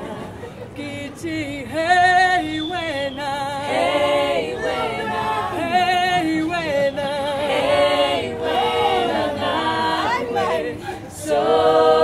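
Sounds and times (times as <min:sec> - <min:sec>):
group of voices singing in harmony: 0:00.0 - 0:12.0.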